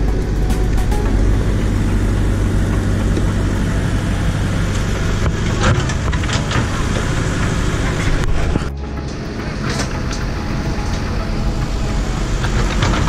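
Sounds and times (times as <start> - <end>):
backhoe engine idling: 0.0 - 13.0.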